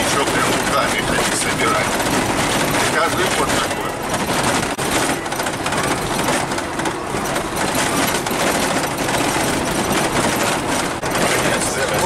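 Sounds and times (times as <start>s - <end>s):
gravel rattling against vehicle: 0.0s - 12.0s
tyre and road noise: 0.0s - 12.0s.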